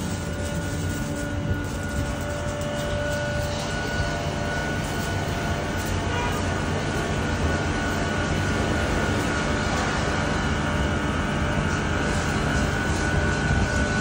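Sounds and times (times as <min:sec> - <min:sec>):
car wash machine drone: 0:00.0 - 0:14.0
thin steady whine: 0:00.0 - 0:14.0.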